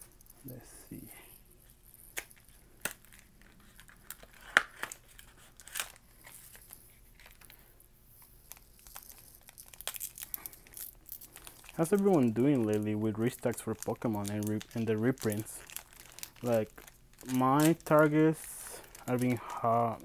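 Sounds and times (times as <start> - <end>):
foil wrapper crinkling: 1.6 - 20.0.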